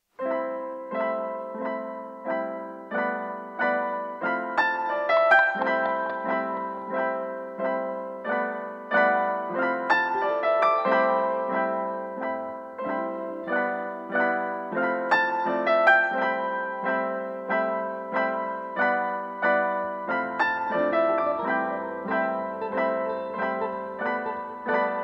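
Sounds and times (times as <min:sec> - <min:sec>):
piano notes and chords: 0:00.0 - 0:25.0.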